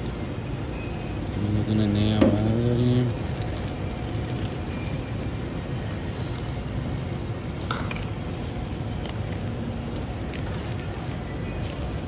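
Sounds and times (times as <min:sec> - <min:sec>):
low mechanical hum: 0:00.0 - 0:12.0
plastic bag crinkling: 0:00.8 - 0:12.0.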